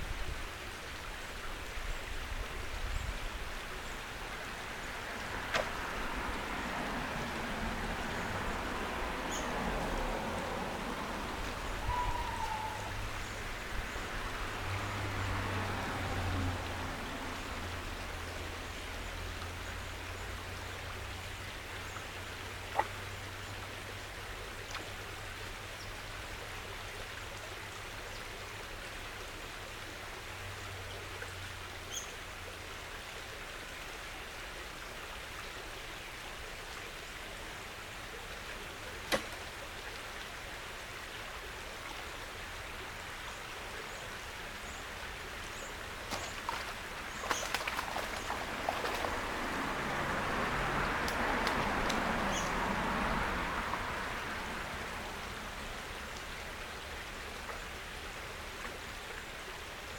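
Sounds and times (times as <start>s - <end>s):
creek water hiss: 0.0s - 59.9s.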